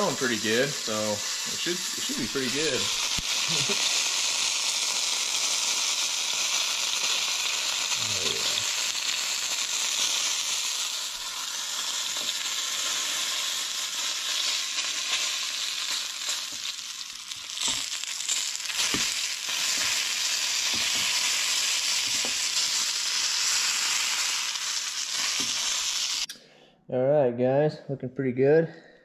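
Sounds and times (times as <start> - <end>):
meat sizzling in a frying pan: 0.0 - 26.3
oil popping and crackling: 0.0 - 26.3.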